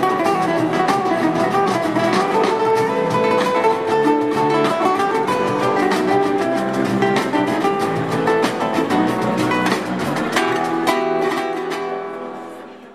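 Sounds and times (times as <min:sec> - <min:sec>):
electric bass guitar: 0:00.0 - 0:11.2
flamenco guitar: 0:00.0 - 0:12.9.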